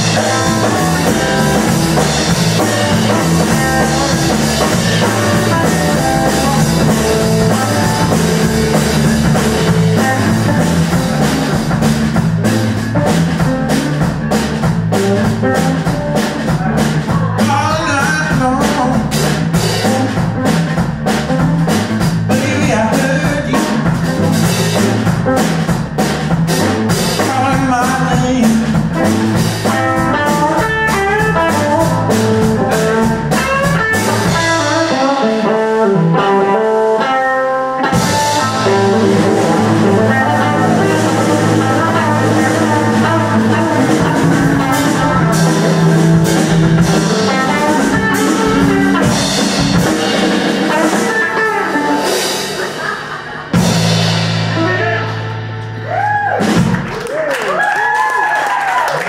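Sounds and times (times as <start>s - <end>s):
drum hits: 0.0s - 35.1s, 37.8s - 57.0s
bass guitar: 0.0s - 59.0s
electric guitar: 0.0s - 59.0s.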